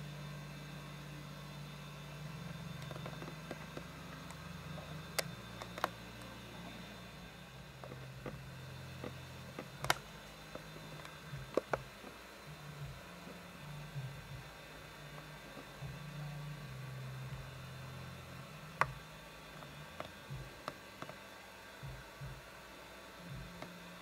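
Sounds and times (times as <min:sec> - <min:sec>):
camcorder running hum: 0:00.0 - 0:24.0.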